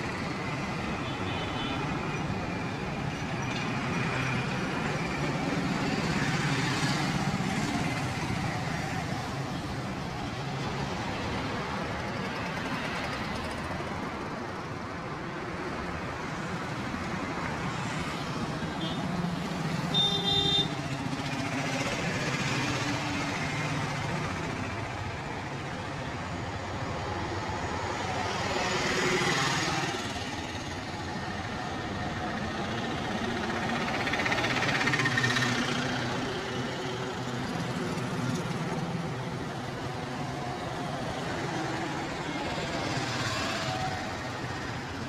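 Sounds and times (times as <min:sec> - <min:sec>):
traffic hum: 0:00.0 - 0:45.0.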